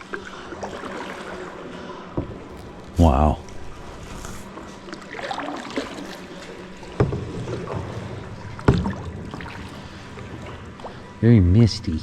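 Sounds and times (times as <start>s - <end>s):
paddle splashing in water: 0.0s - 11.1s.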